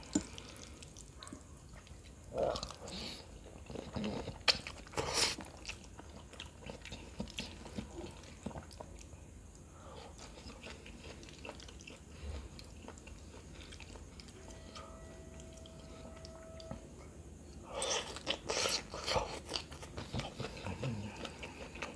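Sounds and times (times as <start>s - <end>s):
quiet chewing with mouth clicks: 0.0s - 16.8s, 17.5s - 21.9s.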